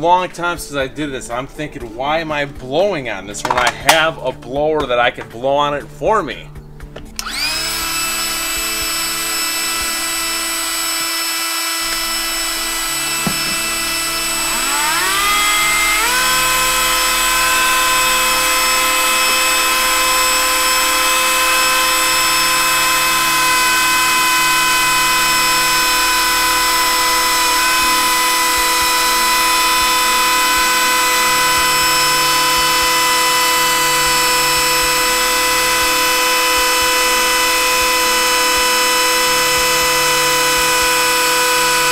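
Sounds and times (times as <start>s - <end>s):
rotary tool motor whining: 7.1s - 41.9s.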